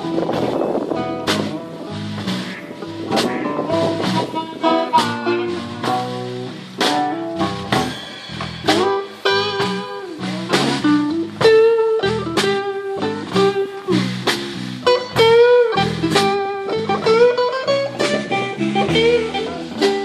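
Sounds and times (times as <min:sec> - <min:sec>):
bass line: 0:00.0 - 0:20.0
blues guitar single notes: 0:00.0 - 0:20.0.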